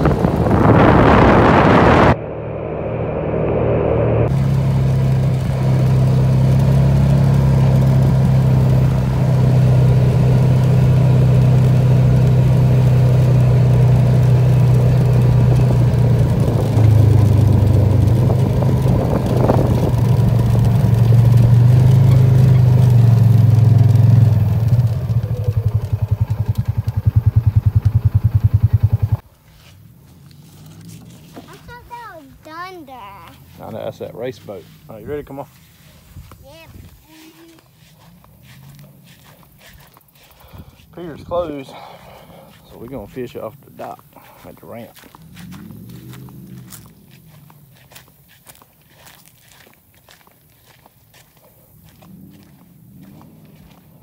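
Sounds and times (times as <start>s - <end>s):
small vehicle engine running: 0.0s - 54.0s.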